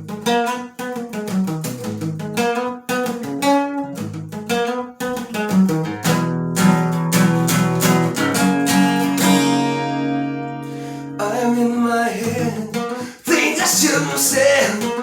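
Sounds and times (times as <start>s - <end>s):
guitar playing: 0.0s - 15.0s.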